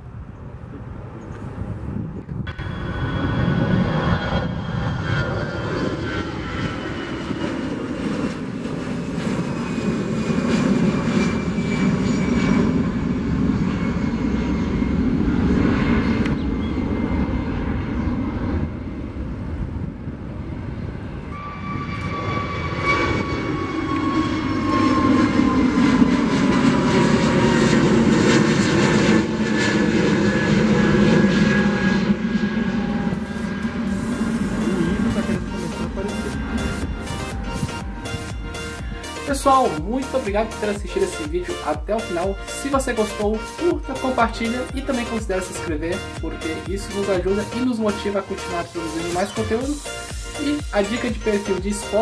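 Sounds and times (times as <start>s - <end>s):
jet airliner engines rumbling: 0.0s - 52.0s.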